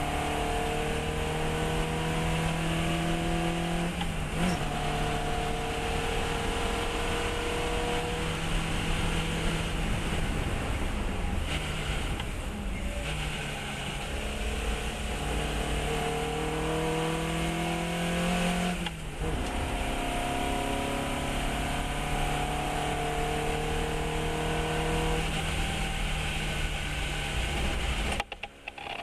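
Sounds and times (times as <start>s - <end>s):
race car engine accelerating: 0.0s - 10.5s, 11.5s - 28.2s.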